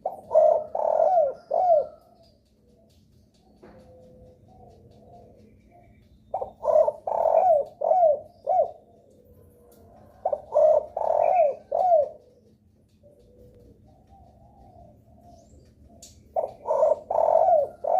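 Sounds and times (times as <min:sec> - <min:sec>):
dove cooing: 0:00.0 - 0:17.9.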